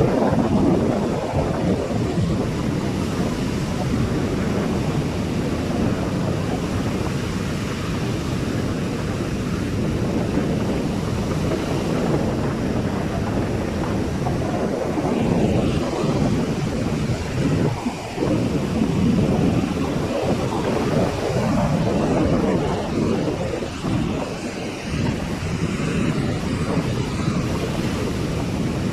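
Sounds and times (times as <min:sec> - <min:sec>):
ocean surf rumble: 0:00.0 - 0:28.9
wind buffeting microphone: 0:00.0 - 0:28.9.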